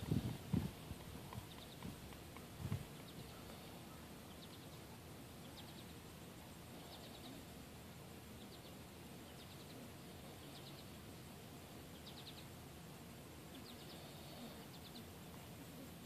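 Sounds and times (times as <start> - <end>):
faint outdoor hiss: 0.0 - 16.0.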